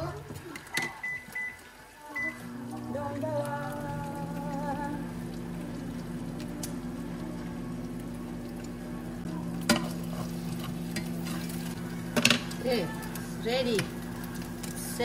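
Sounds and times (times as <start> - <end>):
eggs sizzling in frying pan: 0.0 - 15.0
steady low hum: 2.4 - 15.0.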